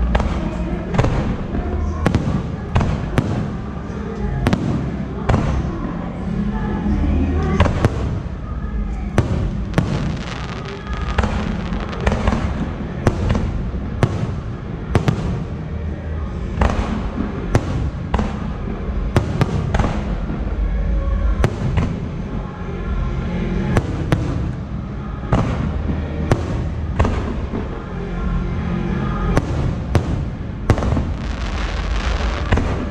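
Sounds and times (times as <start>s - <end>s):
low rumble of launches: 0.0s - 28.4s, 29.1s - 32.9s.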